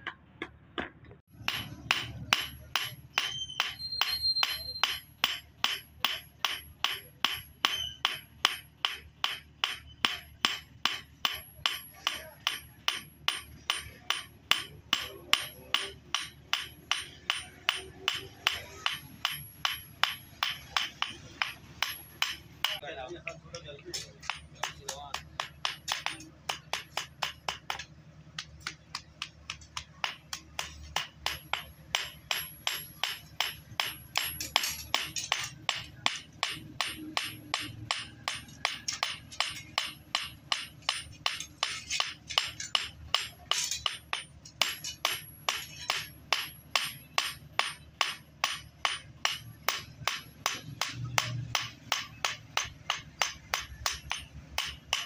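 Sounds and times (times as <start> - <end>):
hammer striking steel blade: 1.3 - 22.8, 23.6 - 55.0.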